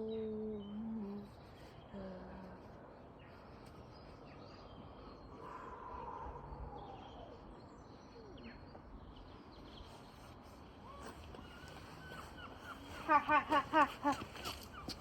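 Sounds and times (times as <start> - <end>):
faint bird-like chirps: 0.0 - 13.0
faint background noise: 0.0 - 15.0.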